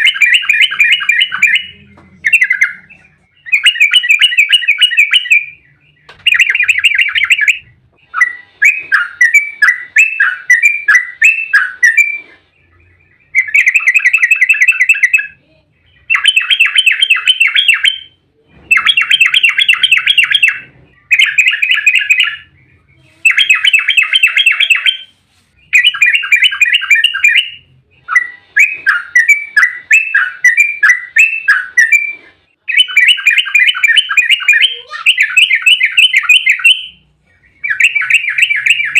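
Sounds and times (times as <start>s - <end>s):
bird singing rapid chattering phrases: 0.0s - 38.9s.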